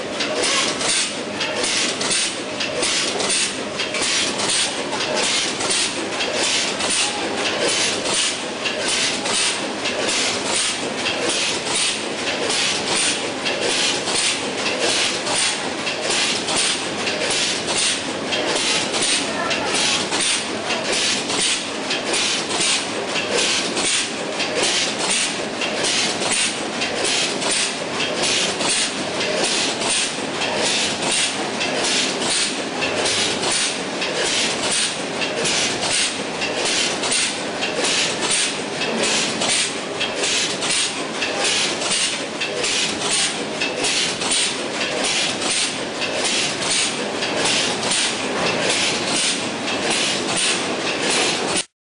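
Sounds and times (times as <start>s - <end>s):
packing machine clacking: 0.0s - 51.7s.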